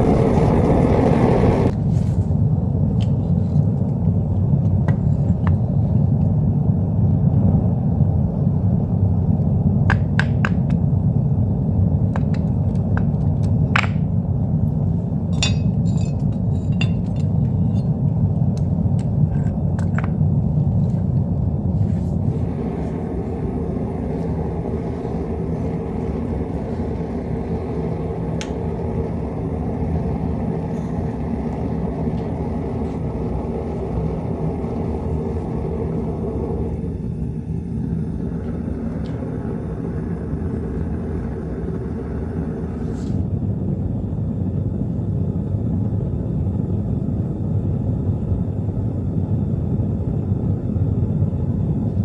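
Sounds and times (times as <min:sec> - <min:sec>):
furnace burner low rumble: 0:00.0 - 0:52.0.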